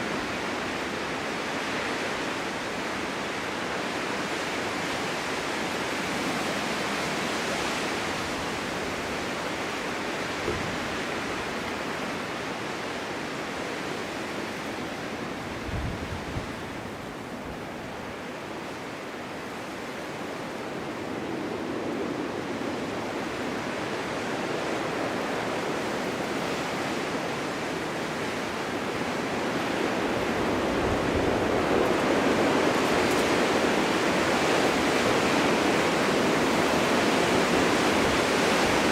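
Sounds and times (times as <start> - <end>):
low wind buffets: 0.0 - 38.9
wind blowing in gusts: 0.0 - 38.9.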